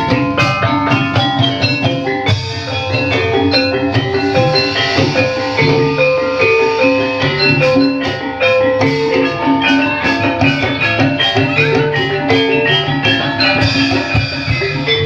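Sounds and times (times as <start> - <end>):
drum beat: 0.0 - 15.0
metallophones playing struck notes: 0.0 - 15.0.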